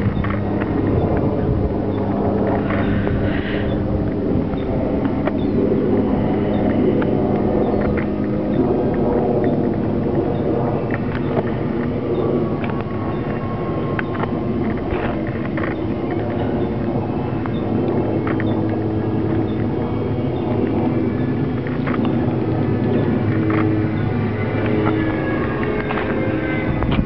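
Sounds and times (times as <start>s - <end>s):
low rumble: 0.0s - 27.0s
model airplane motor droning: 0.0s - 27.0s.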